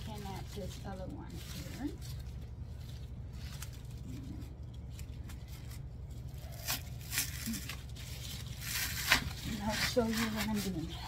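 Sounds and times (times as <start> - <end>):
artificial leaves rustling: 0.0 - 11.0
steady low hum: 0.0 - 11.0.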